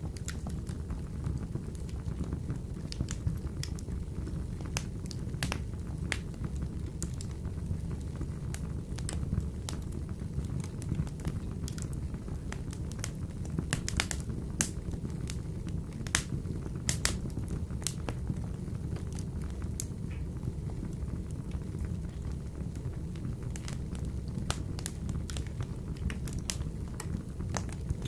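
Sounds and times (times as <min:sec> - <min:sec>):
fire crackling and popping: 0:00.0 - 0:28.0
wood fire rumbling in stove: 0:00.0 - 0:28.0.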